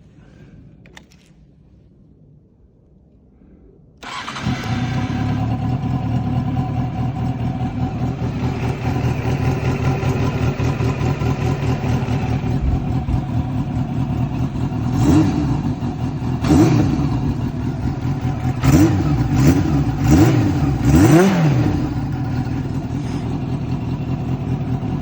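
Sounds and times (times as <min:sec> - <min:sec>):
motorcycle engine starting and idling: 0:04.0 - 0:25.0.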